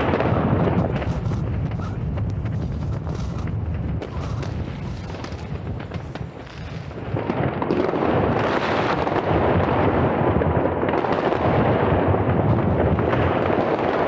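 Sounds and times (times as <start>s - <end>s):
dense firework crackling: 0.0s - 14.0s
distant firework bangs: 0.0s - 14.0s
firecracker cracks: 0.0s - 14.0s.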